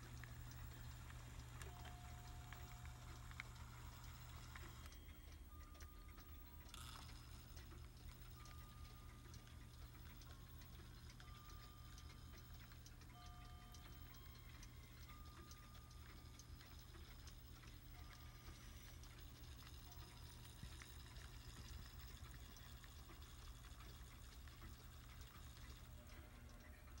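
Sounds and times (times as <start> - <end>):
light ticks: 0.0 - 27.0
steady low hum: 0.0 - 27.0.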